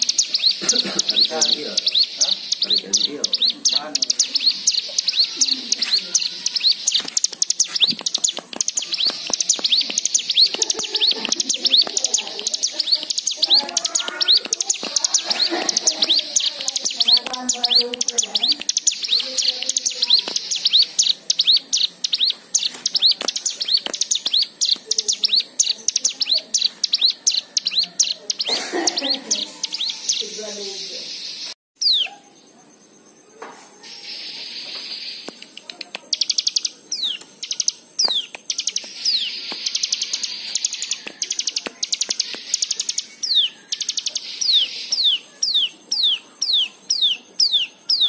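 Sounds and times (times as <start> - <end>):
bird chirping rapidly: 0.0 - 32.4, 33.9 - 48.0.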